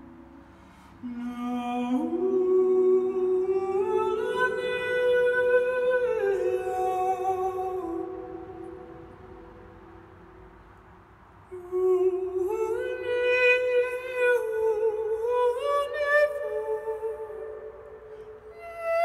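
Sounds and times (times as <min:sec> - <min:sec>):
man singing wordlessly: 0:01.0 - 0:09.5, 0:11.5 - 0:19.0.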